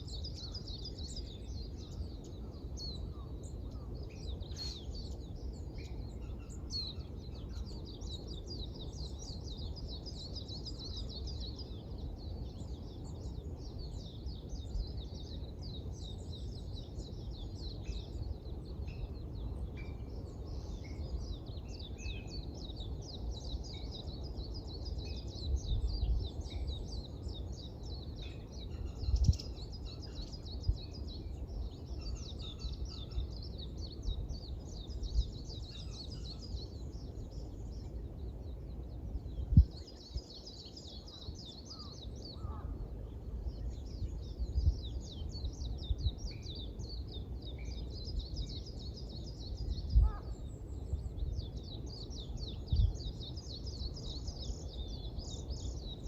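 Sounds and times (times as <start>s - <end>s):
songbirds twittering: 0.0s - 56.0s.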